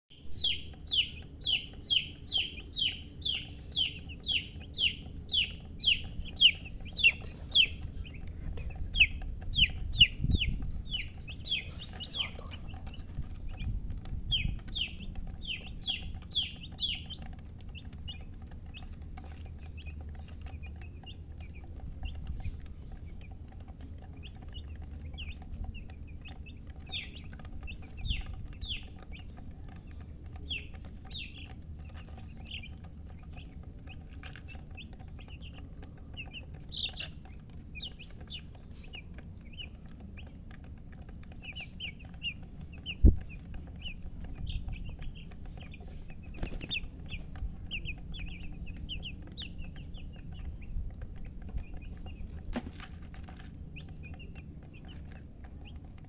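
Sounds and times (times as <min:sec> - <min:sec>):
baby chicks peeping: 0:00.1 - 0:56.0.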